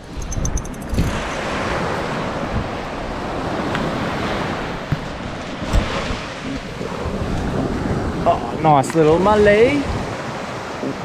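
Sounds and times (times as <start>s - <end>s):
wind on microphone: 0.0s - 11.0s
surf washing up beach: 0.9s - 11.0s.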